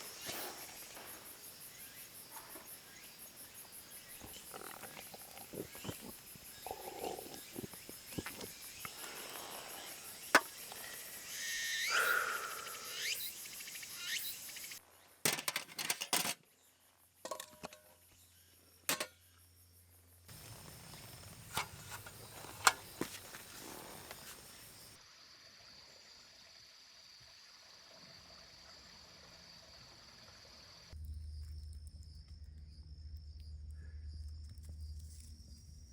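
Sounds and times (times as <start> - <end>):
high insect chorus: 0.0 - 15.2, 16.5 - 35.9.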